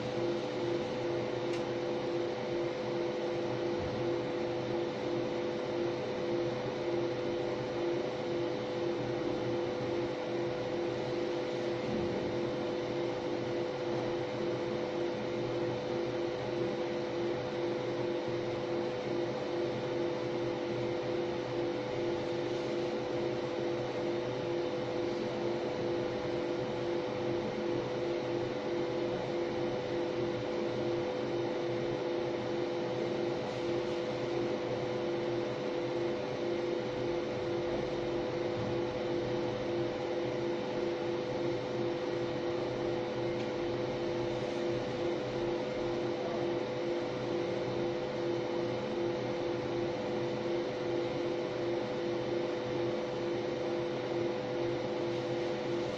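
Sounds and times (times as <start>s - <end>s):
laser machine electric hum: 0.0s - 55.9s.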